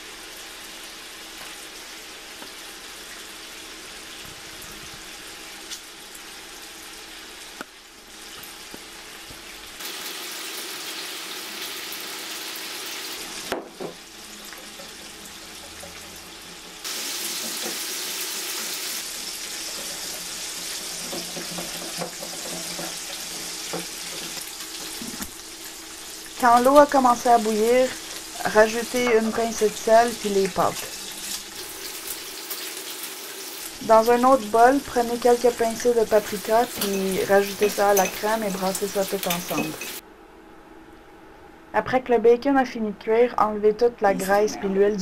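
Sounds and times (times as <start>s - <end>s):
bacon sizzling in a pan: 0.0s - 40.0s.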